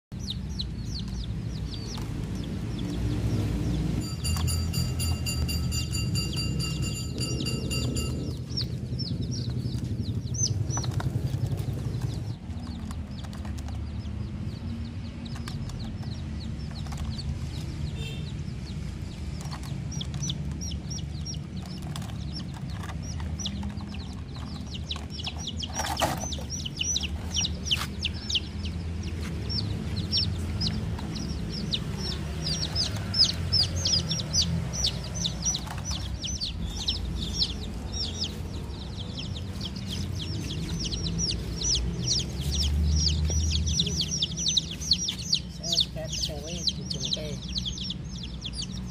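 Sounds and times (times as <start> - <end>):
low background rumble: 0.1 - 17.9, 18.5 - 48.9
baby chicks peeping: 0.1 - 48.9.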